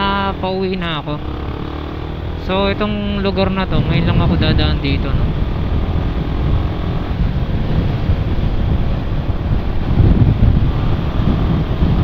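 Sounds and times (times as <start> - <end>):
motorcycle running and road noise: 0.0 - 12.0
wind buffeting microphone: 0.0 - 12.0.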